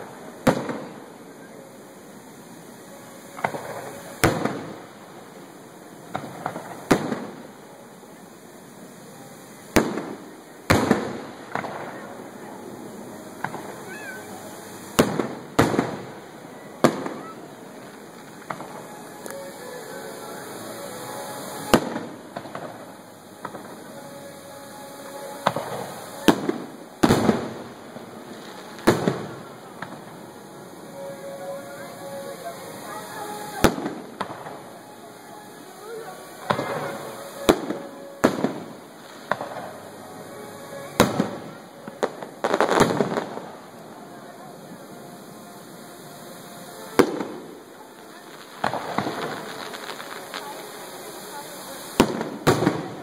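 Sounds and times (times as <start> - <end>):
fireworks bursting with bangs: 0.0 - 53.0.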